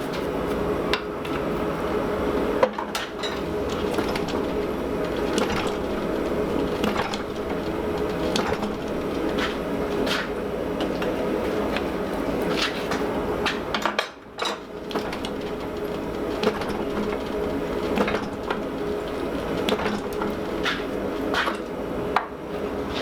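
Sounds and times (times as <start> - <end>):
forge running: 1.6 - 13.5, 14.6 - 23.0.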